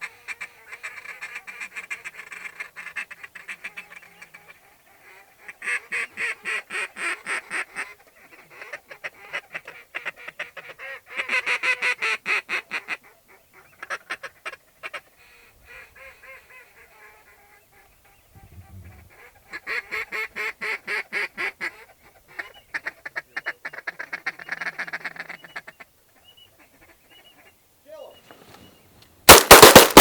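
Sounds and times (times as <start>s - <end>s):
duck and goose calling: 0.0s - 27.6s.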